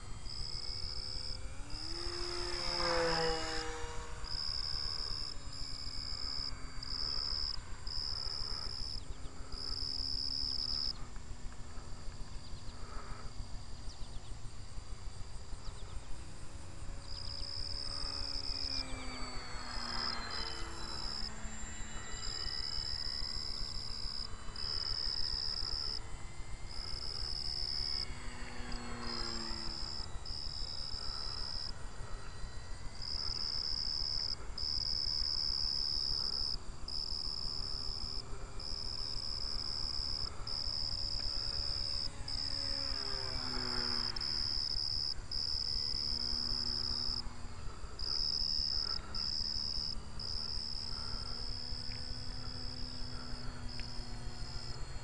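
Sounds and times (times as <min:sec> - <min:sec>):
insects trilling: 0:00.0 - 0:55.0
model plane motor droning: 0:00.0 - 0:55.0.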